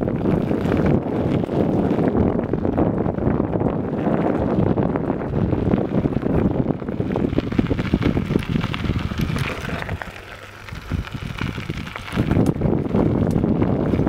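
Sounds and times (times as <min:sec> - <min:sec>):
tyres rattling on dirt trail: 0:00.0 - 0:14.0
wind buffeting microphone: 0:00.0 - 0:14.0.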